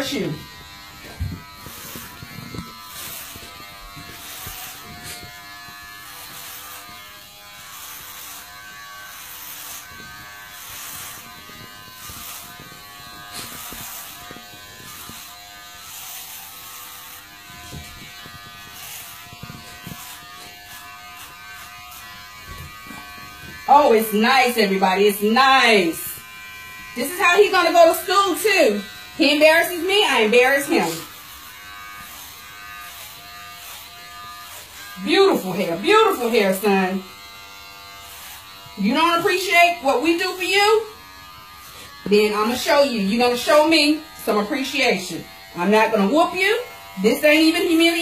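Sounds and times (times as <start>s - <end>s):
electric hair clippers buzzing: 0.0s - 48.0s.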